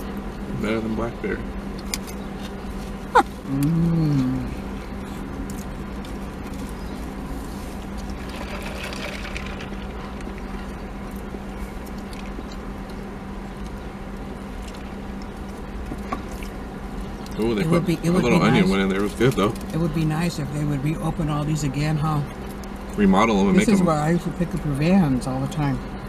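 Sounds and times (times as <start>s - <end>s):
car idling hum: 0.0s - 26.0s.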